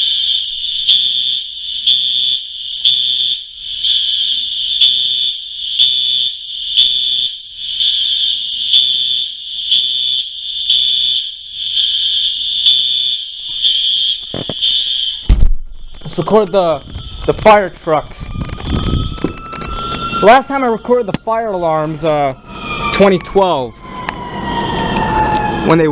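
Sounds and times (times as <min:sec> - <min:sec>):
pulsing fire alarm tone: 0:00.0 - 0:25.9.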